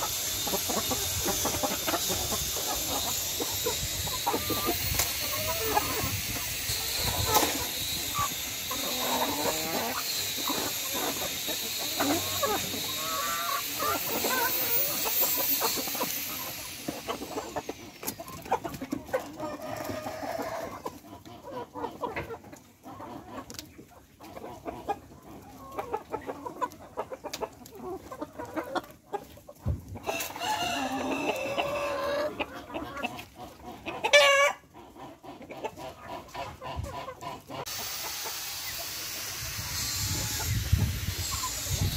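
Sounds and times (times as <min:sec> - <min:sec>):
chicken squawk: 0:00.0 - 0:23.6, 0:30.0 - 0:41.9
chickens clucking: 0:00.0 - 0:41.9.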